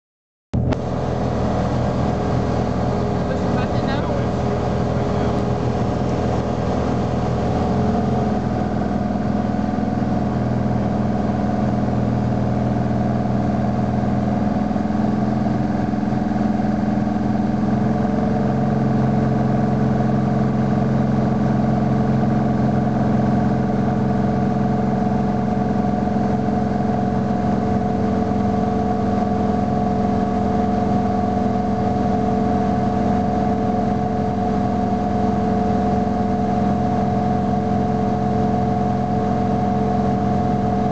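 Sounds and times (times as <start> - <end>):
propeller plane engine drone in cabin: 0.6 - 40.9.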